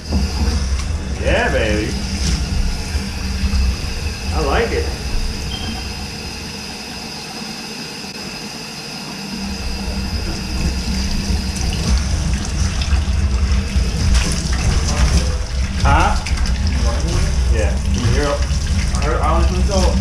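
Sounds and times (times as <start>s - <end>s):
faucet running into metal sink: 0.0s - 20.0s.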